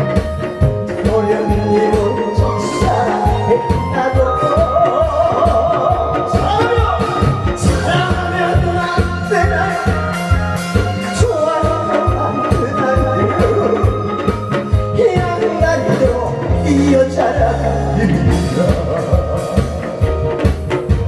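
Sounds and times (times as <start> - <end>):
backing track with steady beat: 0.0 - 21.0
man singing: 0.0 - 21.0.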